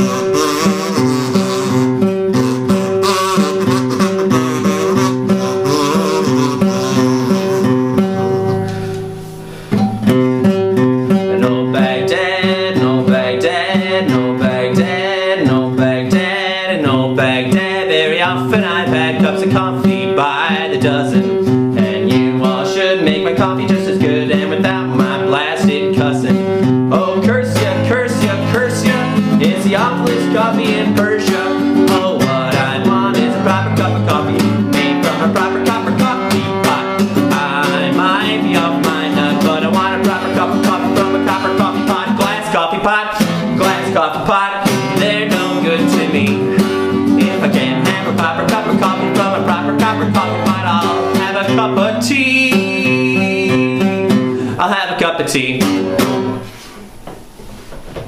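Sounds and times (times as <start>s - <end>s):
acoustic guitar picked and strummed: 0.0s - 58.0s.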